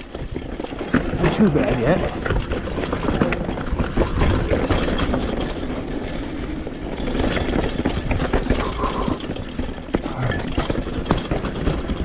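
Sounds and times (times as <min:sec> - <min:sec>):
bike chain and suspension rattle: 0:00.0 - 0:12.0
tyres knocking over bumps: 0:00.0 - 0:12.0.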